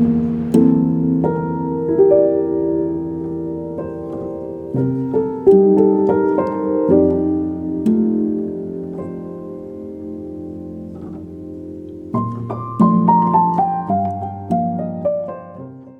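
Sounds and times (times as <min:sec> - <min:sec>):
gentle piano chords: 0:00.0 - 0:15.9.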